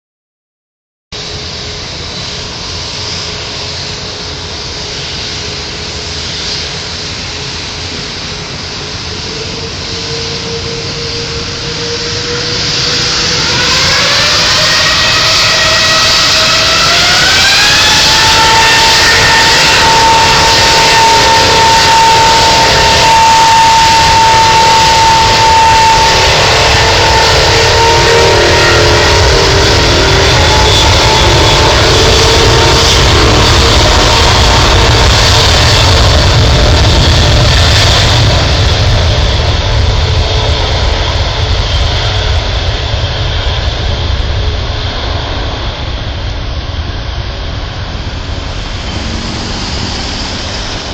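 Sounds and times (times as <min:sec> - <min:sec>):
jet engines spooling up: 0:01.2 - 0:50.9.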